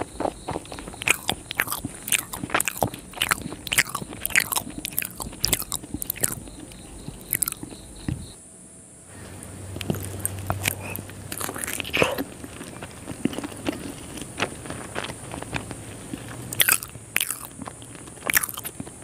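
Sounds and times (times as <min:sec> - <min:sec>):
close chewing: 0:00.0 - 0:08.4, 0:09.1 - 0:19.0
mouth clicks and smacks: 0:00.5 - 0:08.4, 0:09.8 - 0:14.4, 0:15.0 - 0:19.0.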